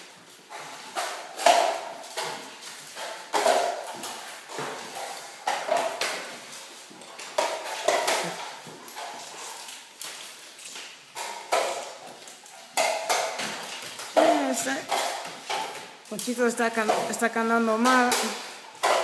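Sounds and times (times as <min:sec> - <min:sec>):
taping knives scraping metal pans: 0:00.0 - 0:19.0.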